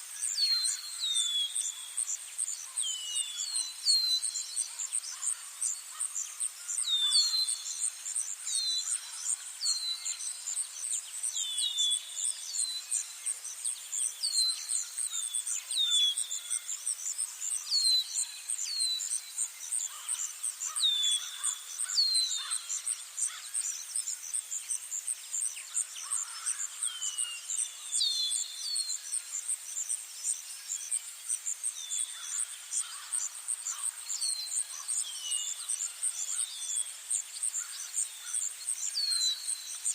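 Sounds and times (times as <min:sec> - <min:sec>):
insects trilling: 0:00.2 - 0:39.9.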